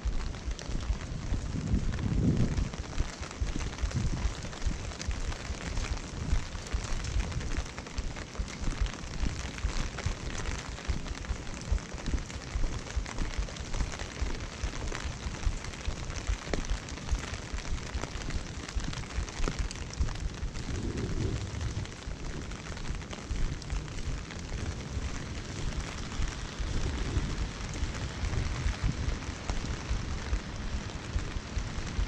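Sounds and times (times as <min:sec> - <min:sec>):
rain on wet pavement: 0:00.0 - 0:32.0
wind buffeting microphone: 0:00.0 - 0:32.0.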